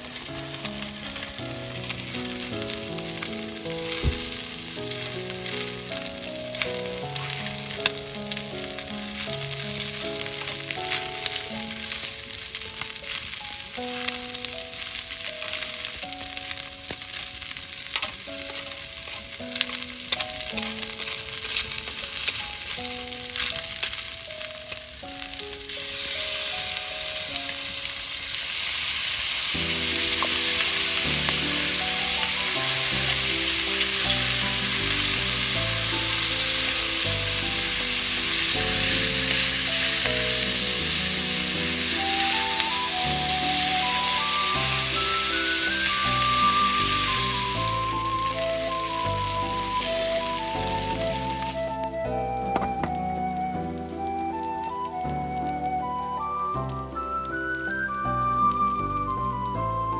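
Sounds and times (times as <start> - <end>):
background music: 0.0 - 59.9
food sizzling in a pan: 0.0 - 59.9.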